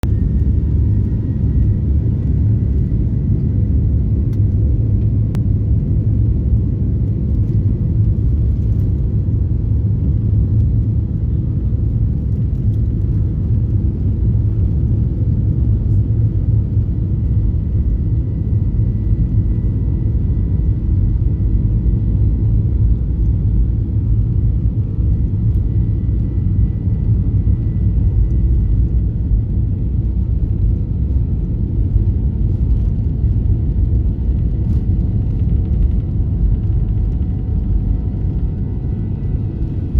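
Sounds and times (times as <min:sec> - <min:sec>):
airliner taking off rumble: 0:00.0 - 0:39.9.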